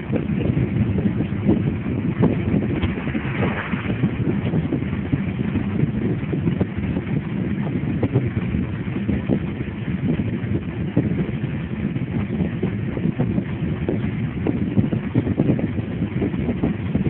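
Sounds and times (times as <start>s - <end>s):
bicycle road rumble: 0.0s - 17.0s
wind buffeting microphone: 0.0s - 17.0s.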